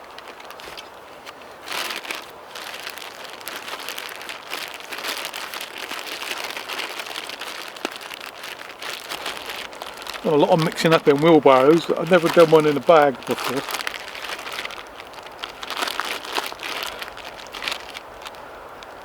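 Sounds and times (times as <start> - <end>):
bag crinkling and rustling: 0.0 - 19.0.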